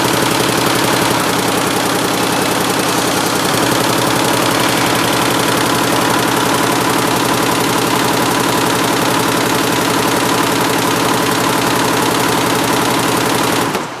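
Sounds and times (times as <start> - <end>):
embroidery machine clattering: 0.0 - 14.0.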